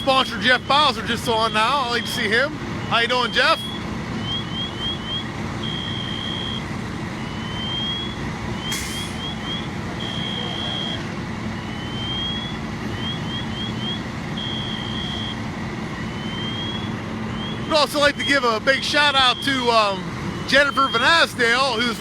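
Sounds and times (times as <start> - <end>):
electronic alarm chirps and whoops: 0.0 - 22.0.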